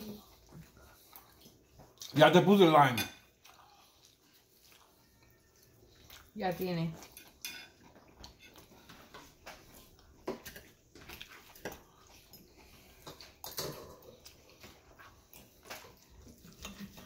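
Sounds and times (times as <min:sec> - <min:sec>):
chewing salad: 0:00.0 - 0:17.0.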